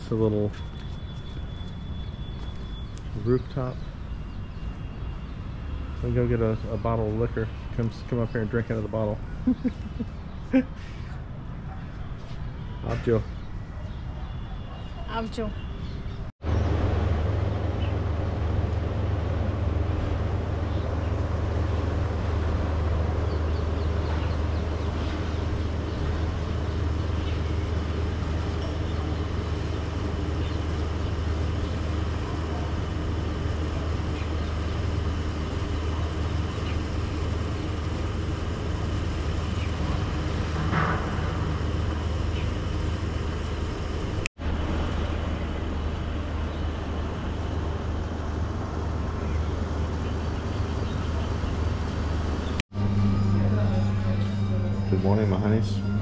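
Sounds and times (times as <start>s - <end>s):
city traffic rumble: 0.0s - 56.0s.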